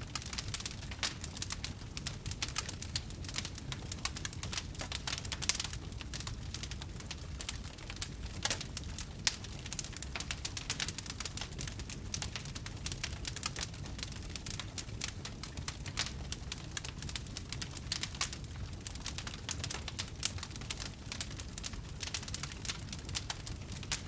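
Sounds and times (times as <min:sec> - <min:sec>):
campfire crackling and popping: 0:00.0 - 0:24.0
low rush of fire: 0:00.0 - 0:24.0.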